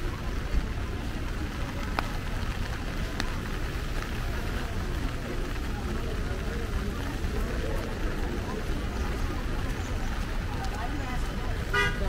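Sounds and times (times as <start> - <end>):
steady rain: 0.0 - 12.0
traffic on wet roads: 0.0 - 12.0.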